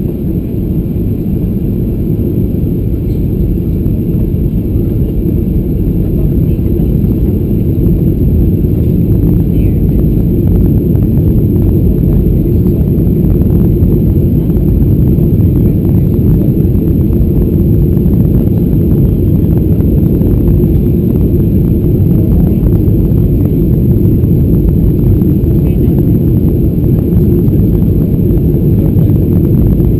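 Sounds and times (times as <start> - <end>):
airplane cabin low rumble: 0.0 - 29.9.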